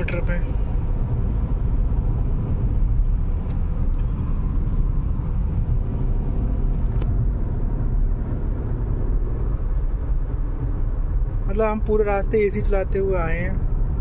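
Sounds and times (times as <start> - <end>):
road and engine rumble in car: 0.0 - 14.0.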